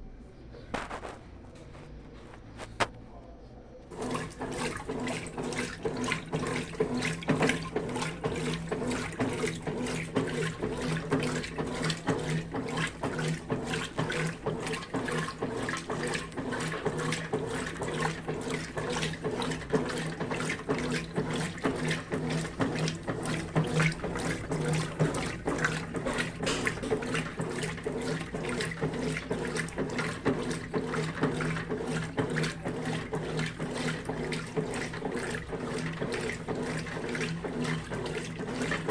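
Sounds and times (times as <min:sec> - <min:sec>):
washing machine motor hum: 0:00.0 - 0:38.9
water sloshing and churning: 0:03.9 - 0:38.9.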